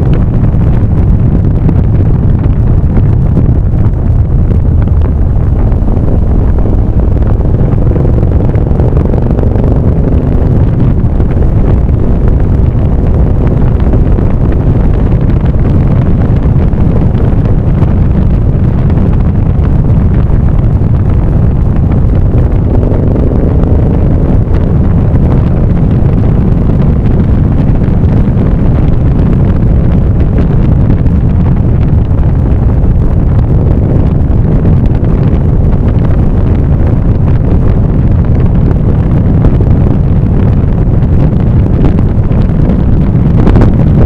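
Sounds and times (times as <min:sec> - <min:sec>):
faint engine hum: 0:00.0 - 0:44.0
wind buffeting microphone: 0:00.0 - 0:44.0.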